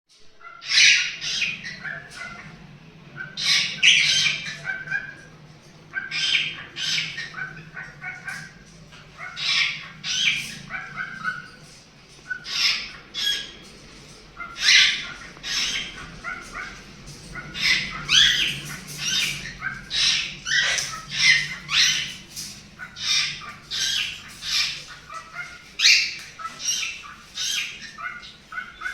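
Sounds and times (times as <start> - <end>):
cockatiels squawking and chirping: 0.4 - 28.9.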